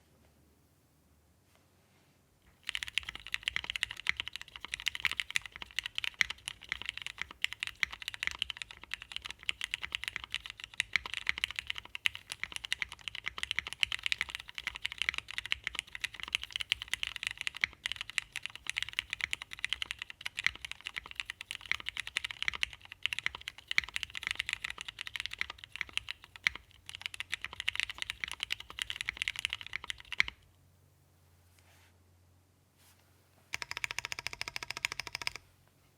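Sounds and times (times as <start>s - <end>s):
fast typing on mechanical keyboard: 2.6s - 30.4s, 33.6s - 35.4s.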